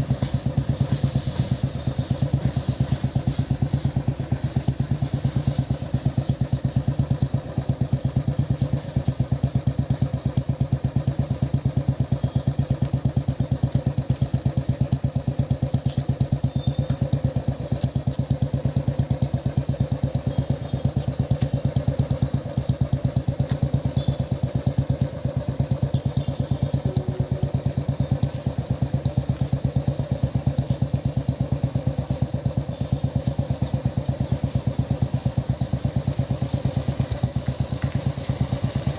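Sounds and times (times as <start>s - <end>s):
diesel locomotive engine chugging: 0.0s - 38.9s.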